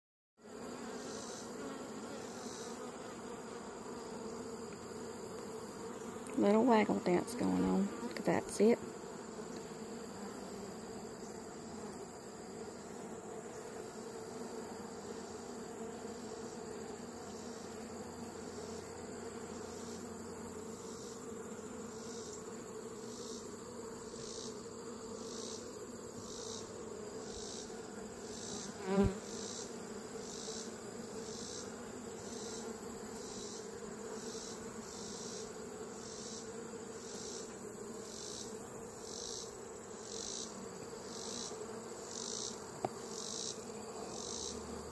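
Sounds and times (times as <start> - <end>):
bees humming: 0.4 - 44.9.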